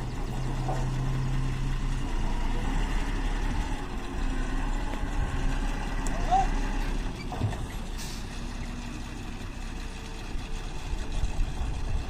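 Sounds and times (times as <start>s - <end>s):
drilling rig engine running: 0.0s - 12.0s.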